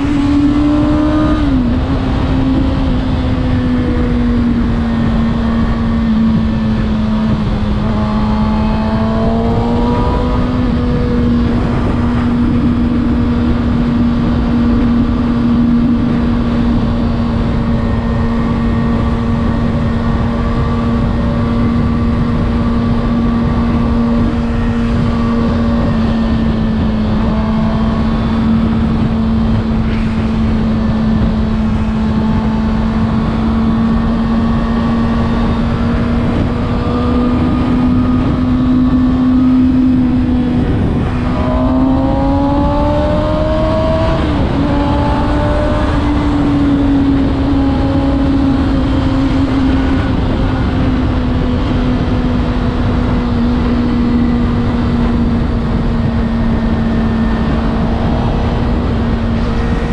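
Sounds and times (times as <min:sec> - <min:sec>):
motorcycle engine cruising: 0:00.0 - 0:59.9
wind noise rushing: 0:00.0 - 0:59.9.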